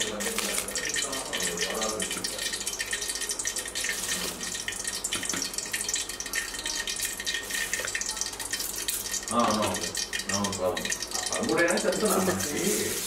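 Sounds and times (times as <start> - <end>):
water boiling and bubbling: 0.0 - 13.0.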